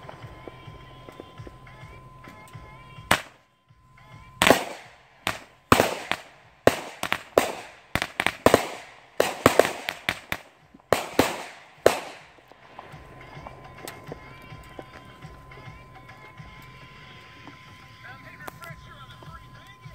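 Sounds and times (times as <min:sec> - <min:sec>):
fireworks bangs: 0:00.0 - 0:19.9.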